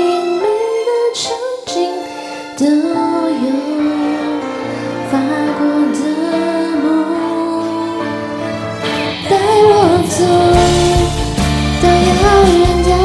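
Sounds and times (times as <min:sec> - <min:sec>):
karaoke backing track: 0:00.0 - 0:13.0
woman singing a pop ballad: 0:00.0 - 0:13.0.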